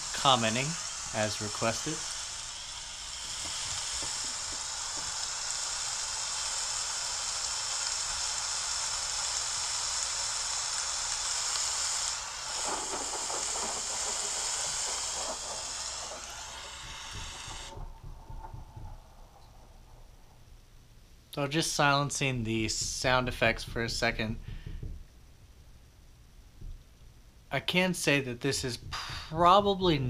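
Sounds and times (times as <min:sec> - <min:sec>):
rain hiss through phone speaker: 0:00.0 - 0:30.0.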